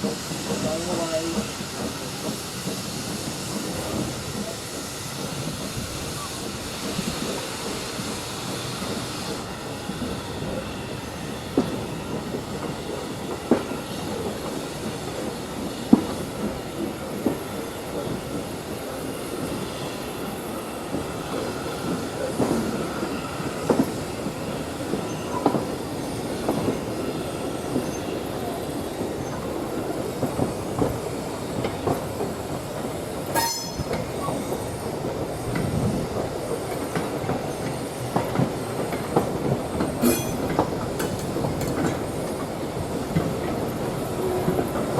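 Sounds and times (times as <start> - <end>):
train wheels clicking over rail joints: 0.0 - 44.9.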